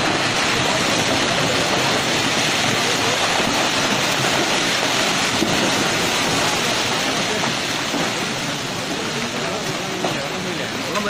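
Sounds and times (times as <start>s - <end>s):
floodwater and debris rushing: 0.0s - 11.0s.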